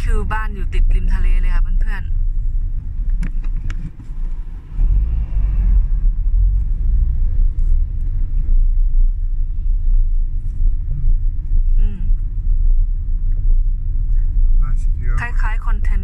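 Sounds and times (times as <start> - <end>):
car engine and tyres rumbling: 0.0 - 16.0
van passing: 0.0 - 16.0.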